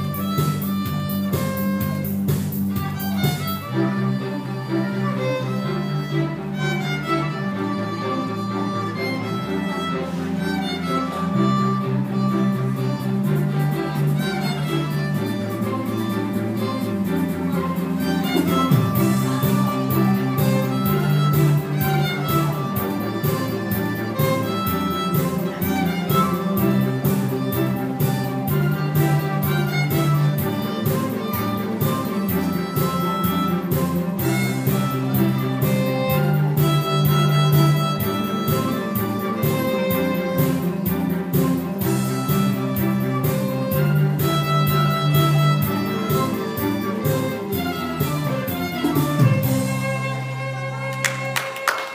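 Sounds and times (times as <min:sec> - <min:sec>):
backing track with steady beat: 0:00.0 - 0:51.9
solo violin melody: 0:00.0 - 0:51.9.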